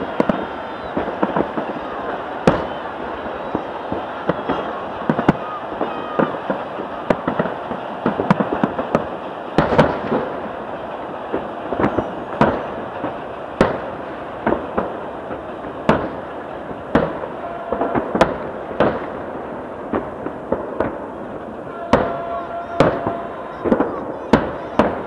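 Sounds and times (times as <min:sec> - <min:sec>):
firework shells bursting: 0:00.0 - 0:25.0.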